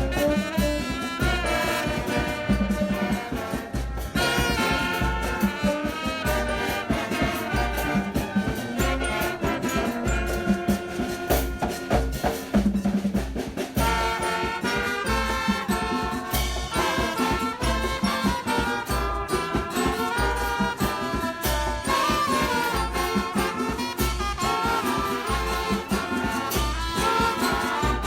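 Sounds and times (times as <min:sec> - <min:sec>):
steady drum beat: 0:00.0 - 0:28.0
upbeat instrumental with brass: 0:00.0 - 0:28.0.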